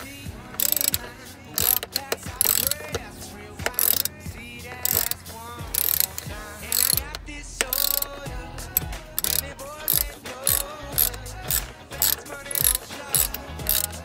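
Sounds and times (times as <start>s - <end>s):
ratchet wrench clicking: 0.0s - 14.0s.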